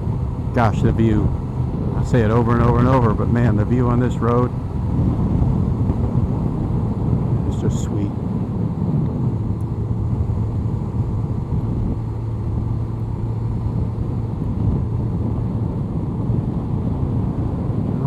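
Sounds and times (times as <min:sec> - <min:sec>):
motorcycle engine droning: 0:00.0 - 0:18.0
road noise: 0:00.0 - 0:18.0.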